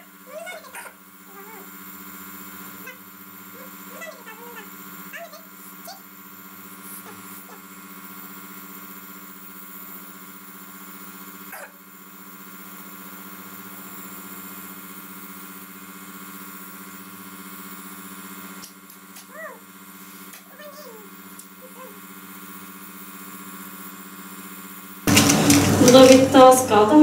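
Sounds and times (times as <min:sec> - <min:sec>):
nebulizer motor humming and hissing: 0:00.0 - 0:27.0.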